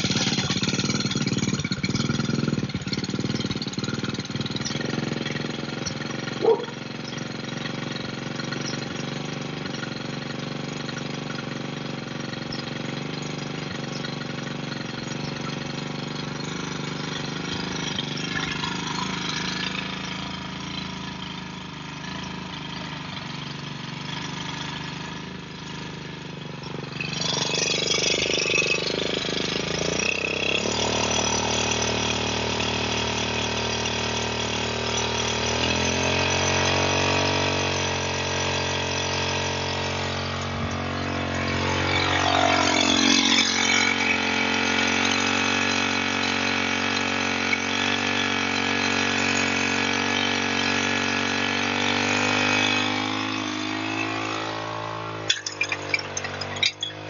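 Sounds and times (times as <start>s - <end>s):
brush cutter engine idling: 0.0s - 57.0s.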